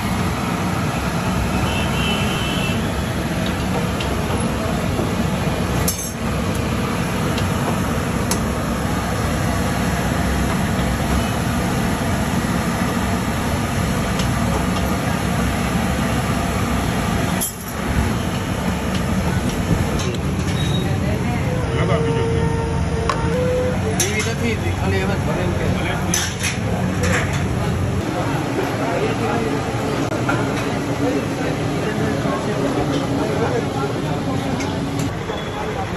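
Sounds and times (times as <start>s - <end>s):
busy street tea stall noise: 0.0s - 35.9s.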